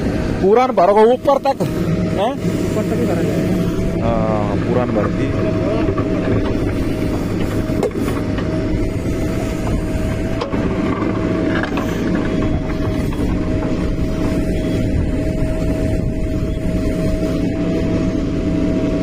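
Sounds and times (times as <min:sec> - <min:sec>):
diesel engine running under load: 0:00.0 - 0:19.0
steady whine: 0:00.0 - 0:19.0.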